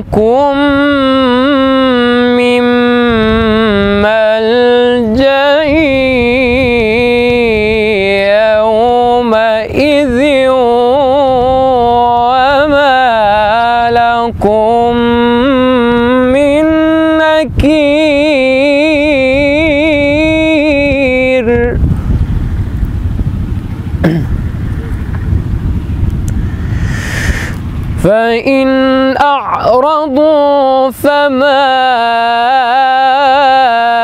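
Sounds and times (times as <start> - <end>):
man reciting melismatically: 0.0 - 21.8, 28.0 - 34.0.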